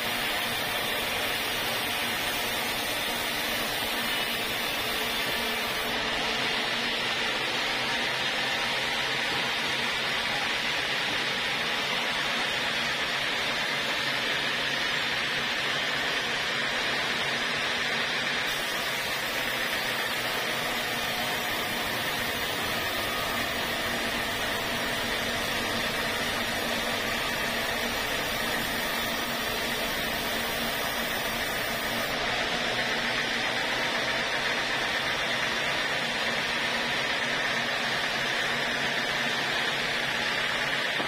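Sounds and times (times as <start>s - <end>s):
band saw cutting log: 0.0s - 10.8s, 18.1s - 41.0s.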